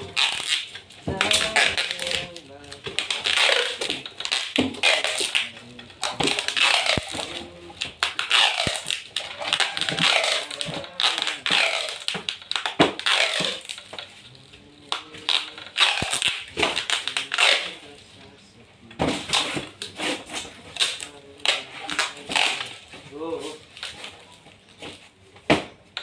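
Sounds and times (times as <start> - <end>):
taped pipe crinkling and crackling: 0.0 - 26.0.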